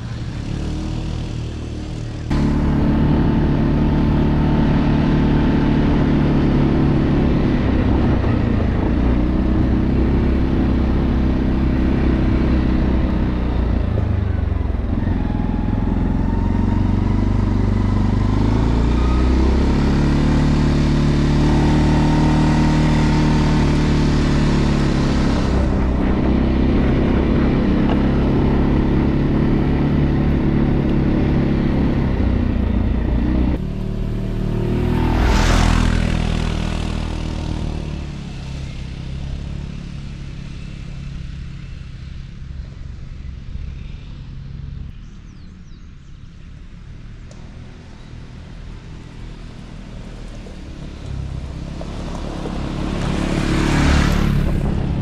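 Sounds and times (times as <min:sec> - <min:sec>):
quad engine revving: 0:00.0 - 0:41.7, 0:48.9 - 0:55.0.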